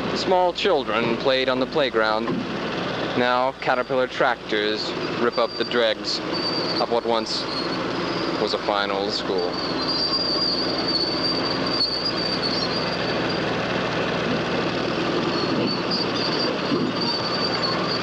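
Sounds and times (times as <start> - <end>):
diesel engine running: 0.0 - 18.0
steel tracks clanking and squealing: 0.0 - 18.0.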